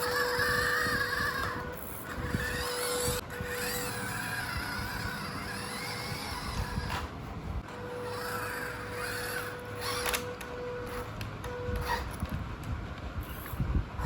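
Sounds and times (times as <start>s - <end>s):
small electric motor whining: 0.0s - 12.3s, 13.2s - 14.0s.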